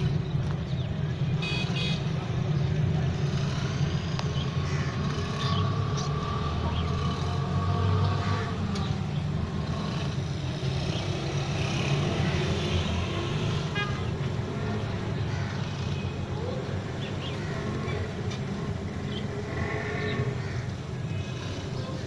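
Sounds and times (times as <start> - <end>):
low rumble of road traffic: 0.0 - 22.0.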